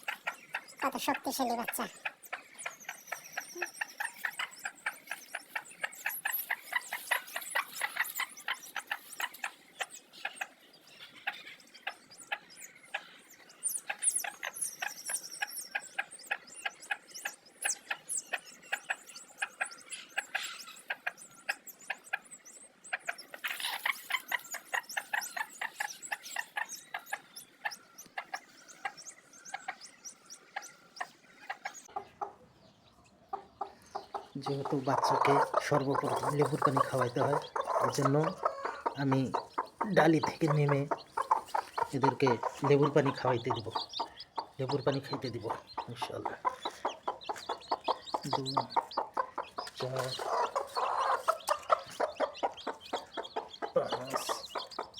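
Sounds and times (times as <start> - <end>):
chicks peeping: 0.0 - 54.9.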